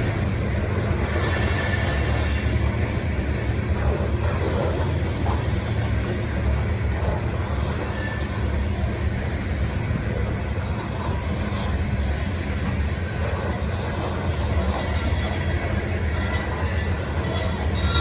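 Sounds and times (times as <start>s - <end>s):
diesel locomotive rumble: 0.0s - 18.0s
rail cars rolling: 0.0s - 18.0s.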